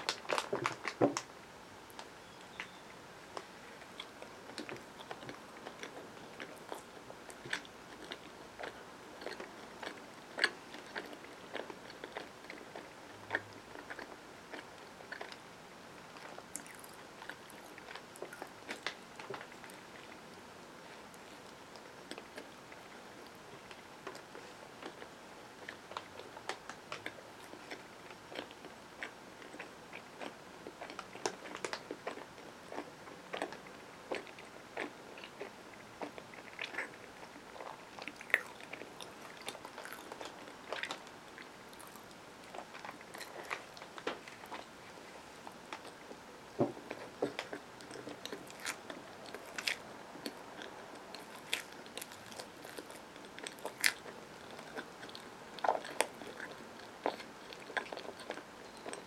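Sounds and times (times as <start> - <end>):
chewing with mouth clicks: 3.4 - 15.4, 16.1 - 46.2, 46.8 - 59.0.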